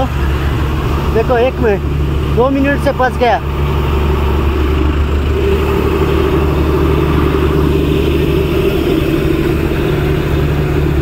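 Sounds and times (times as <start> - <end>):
diesel locomotive running: 0.0 - 11.0
road traffic engine noise: 0.0 - 11.0.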